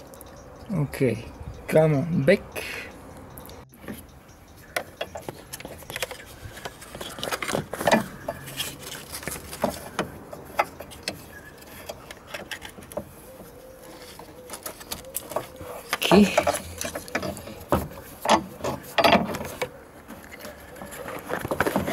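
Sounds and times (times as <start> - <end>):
hands handling plastic and metal parts: 3.8 - 21.9.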